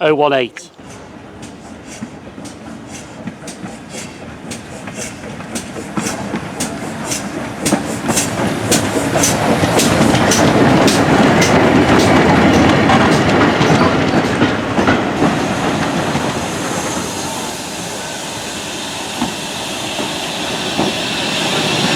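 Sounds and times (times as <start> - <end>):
train running rumble: 0.6 - 21.9
train wheels clicking over rail joints: 0.8 - 21.9.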